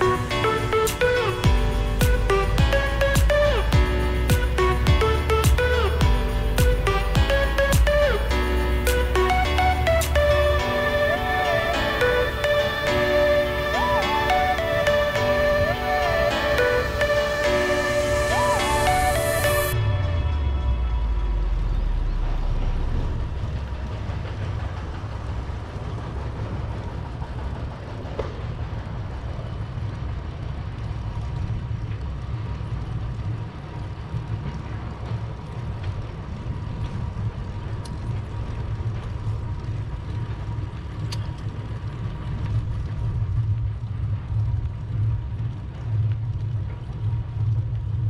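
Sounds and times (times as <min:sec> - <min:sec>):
bicycle tyres on asphalt: 0:00.0 - 0:48.0.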